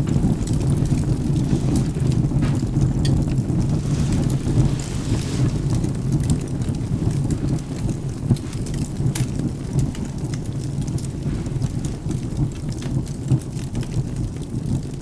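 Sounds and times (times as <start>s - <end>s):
continuous low rumble: 0.0s - 15.0s
steady rain: 0.0s - 15.0s
wood fire crackling: 0.0s - 15.0s.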